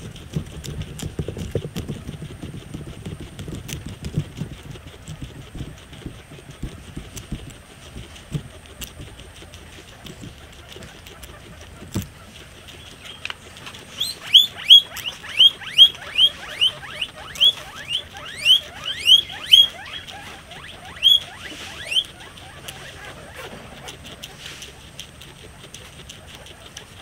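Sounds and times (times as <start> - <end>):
guinea pig squeaking: 0.0 - 27.0.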